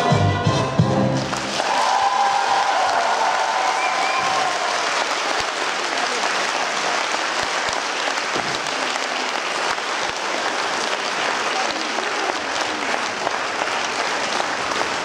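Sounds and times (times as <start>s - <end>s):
audience applauding: 1.2s - 15.0s.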